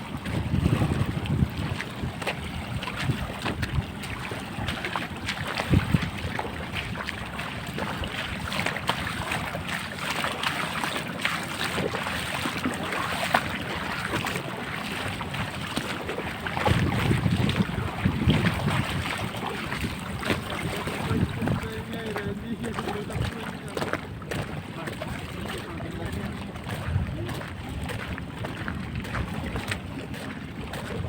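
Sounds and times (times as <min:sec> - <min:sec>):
wind buffeting microphone: 0:00.0 - 0:09.9, 0:11.6 - 0:31.0
crackles and splashes: 0:00.0 - 0:31.0
wash of sea water: 0:00.0 - 0:31.0.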